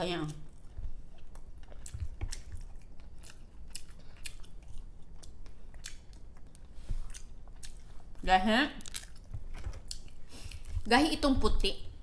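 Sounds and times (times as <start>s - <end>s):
chewing and biting egg: 0.4s - 8.2s, 8.8s - 10.8s.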